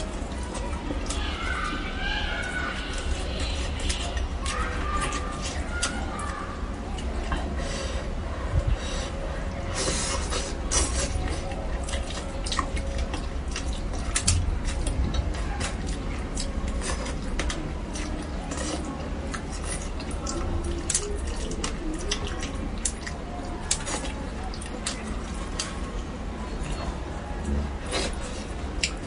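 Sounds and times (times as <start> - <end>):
wet chewing: 0.0 - 29.0.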